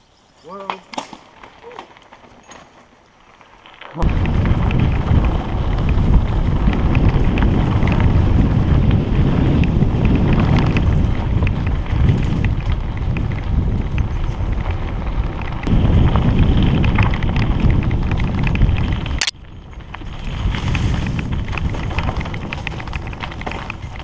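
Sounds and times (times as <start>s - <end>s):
bike clicks and rattles: 0.5s - 24.0s
wind buffeting microphone: 4.0s - 24.0s.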